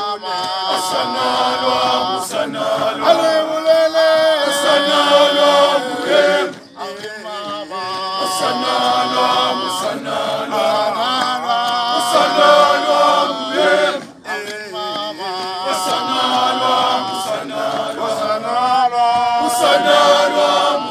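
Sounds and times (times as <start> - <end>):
men chanting in chorus: 0.0 - 20.9.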